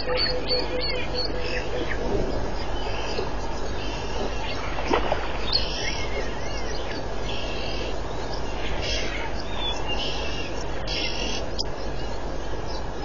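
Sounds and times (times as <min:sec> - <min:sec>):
bird-like chirps: 0:00.0 - 0:13.0
low background hiss: 0:00.0 - 0:13.0.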